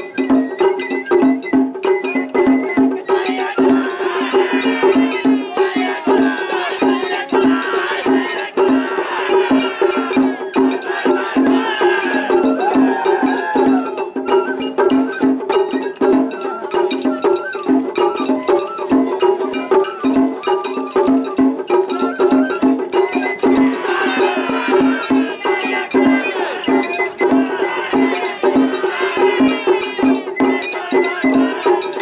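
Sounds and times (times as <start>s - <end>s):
bamboo flute: 0.0s - 32.0s.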